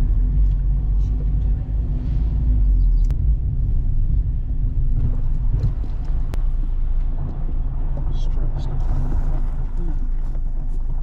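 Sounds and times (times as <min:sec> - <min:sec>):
wind and road noise in open car: 0:00.0 - 0:11.0.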